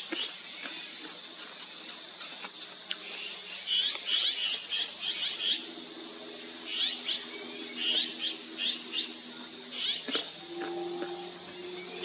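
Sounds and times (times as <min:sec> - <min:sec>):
small songbird chirping: 0:00.0 - 0:05.8, 0:06.4 - 0:12.0.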